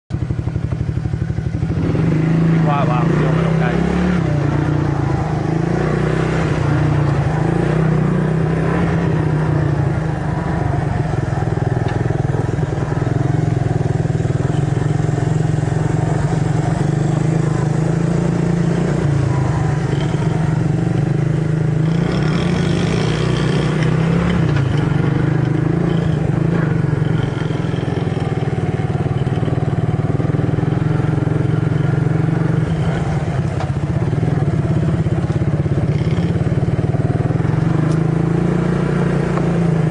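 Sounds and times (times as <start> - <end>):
small dirt bike engine running: 0.1 - 39.9.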